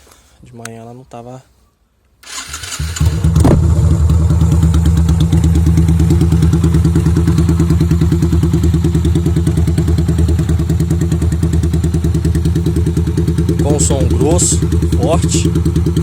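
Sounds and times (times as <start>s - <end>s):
motorcycle engine idling: 2.8s - 16.0s.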